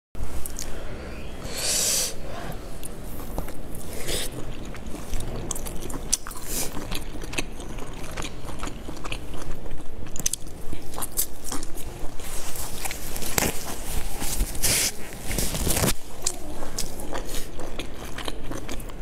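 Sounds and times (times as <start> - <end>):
person chewing close up: 0.4 - 0.8, 2.8 - 19.0.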